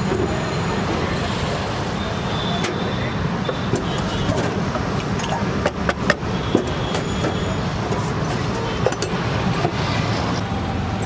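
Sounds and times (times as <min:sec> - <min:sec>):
roadside traffic: 0:00.0 - 0:11.0.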